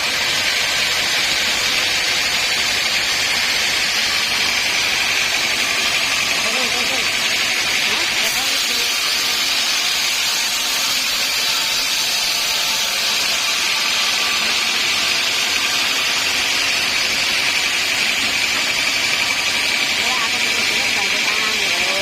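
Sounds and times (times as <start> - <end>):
sawmill saw running: 0.0 - 22.0.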